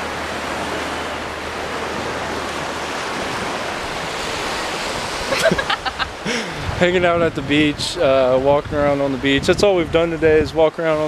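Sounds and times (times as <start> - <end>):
ocean surf on shore: 0.0 - 11.0
wind on microphone: 0.0 - 11.0.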